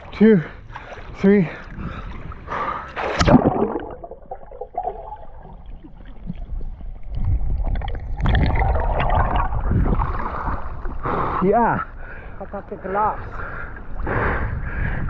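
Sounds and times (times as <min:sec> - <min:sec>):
water churning and bubbling: 0:00.0 - 0:15.0.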